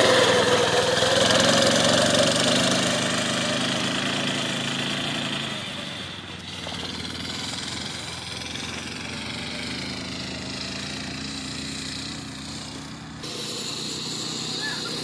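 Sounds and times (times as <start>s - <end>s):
dune buggy engine running: 0.0s - 15.0s.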